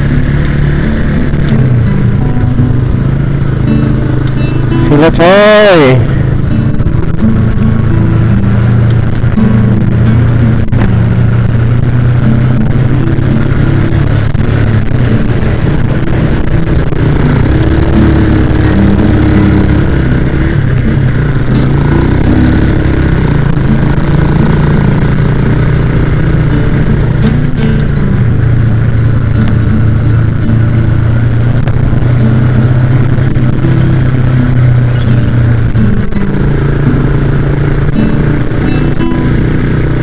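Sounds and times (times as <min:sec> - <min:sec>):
motorcycle engine running: 0:00.0 - 0:40.0
wind and road noise: 0:00.0 - 0:40.0.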